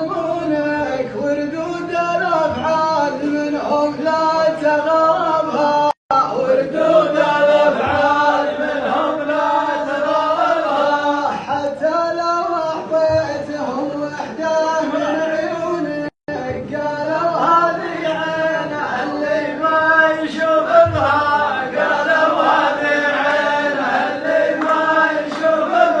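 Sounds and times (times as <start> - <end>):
men chanting a sung poem: 0.0 - 26.0.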